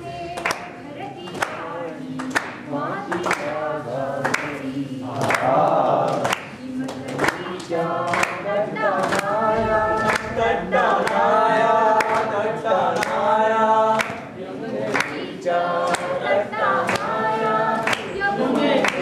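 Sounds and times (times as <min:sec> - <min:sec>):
group singing unaccompanied: 0:00.0 - 0:19.0
hand claps: 0:00.3 - 0:11.4, 0:12.0 - 0:13.3, 0:13.9 - 0:14.3, 0:14.9 - 0:19.0.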